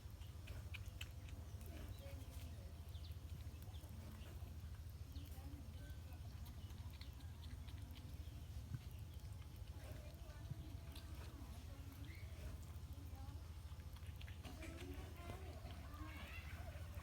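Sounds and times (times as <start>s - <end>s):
porcupines chewing leaves: 0.0s - 17.0s
steady low hum: 0.0s - 17.0s.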